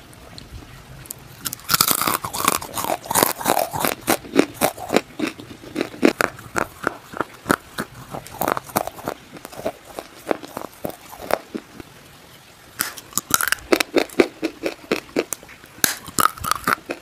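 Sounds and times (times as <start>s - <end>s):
person chewing crunchy pieces: 1.4s - 11.8s, 12.8s - 17.0s.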